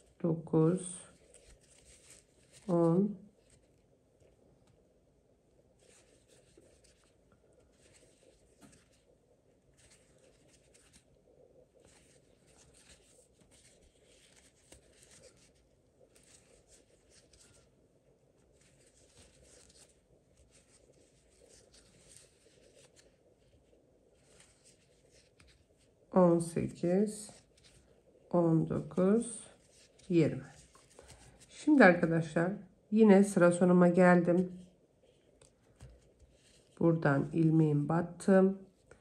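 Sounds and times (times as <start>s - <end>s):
crochet hook rustling yarn: 0.0s - 39.0s.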